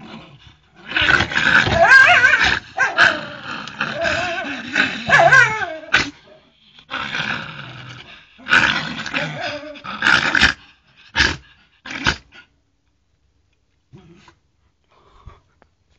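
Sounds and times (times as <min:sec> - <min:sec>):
dog growling: 0:00.0 - 0:12.5, 0:13.9 - 0:14.4.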